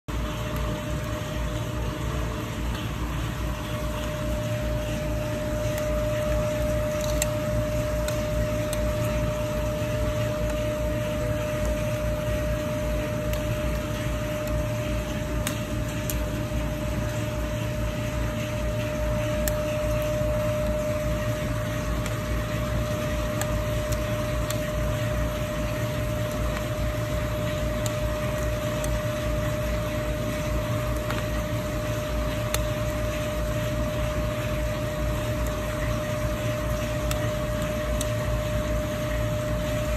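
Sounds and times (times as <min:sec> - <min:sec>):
machine hum: 0:00.0 - 0:39.9
mid-pitched machine whine: 0:00.0 - 0:39.9.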